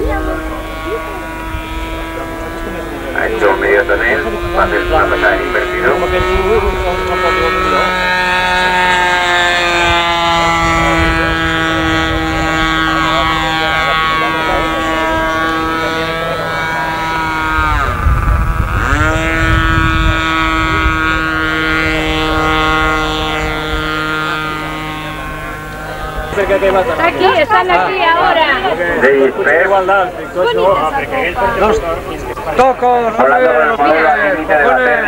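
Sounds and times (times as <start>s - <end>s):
model airplane engine: 0.0s - 35.0s.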